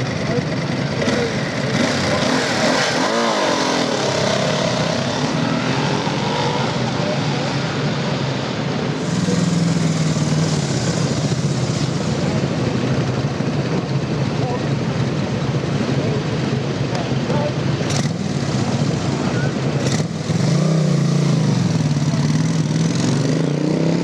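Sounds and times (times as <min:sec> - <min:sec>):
crowd chatter: 0:00.0 - 0:24.0
motorcycle engines running: 0:00.0 - 0:24.0.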